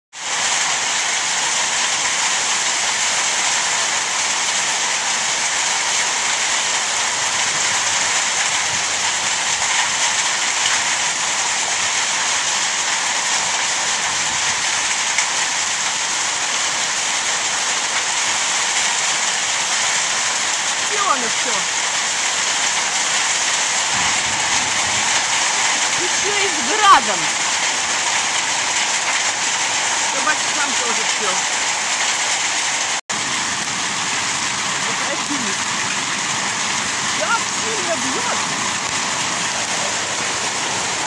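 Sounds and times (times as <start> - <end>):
heavy rain pouring: 0.2 - 41.0.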